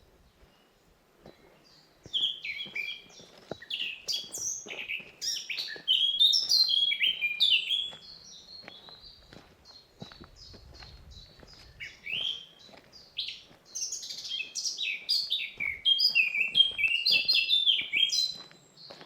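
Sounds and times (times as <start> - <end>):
songbirds chirping and whistling: 0.2 - 19.0.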